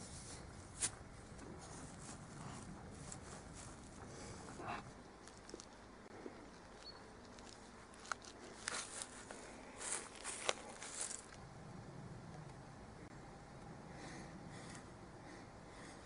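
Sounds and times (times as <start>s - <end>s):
rustling of dry grass: 0.0s - 16.0s.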